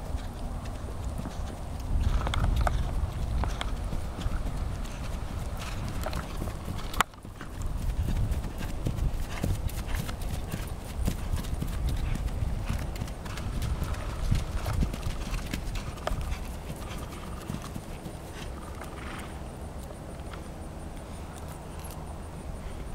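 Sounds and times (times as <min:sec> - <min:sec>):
horse hoofbeats on grass: 0:00.0 - 0:20.6.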